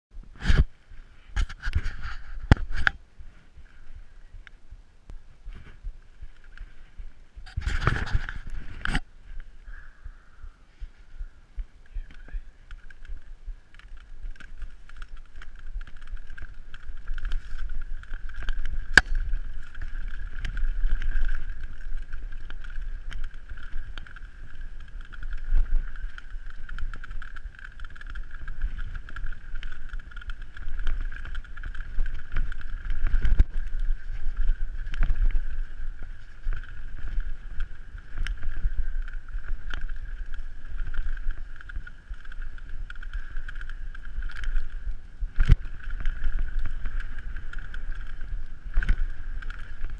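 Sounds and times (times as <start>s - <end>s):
wind rumbling on microphone: 0.1s - 49.9s
bike rattling: 5.2s - 49.9s.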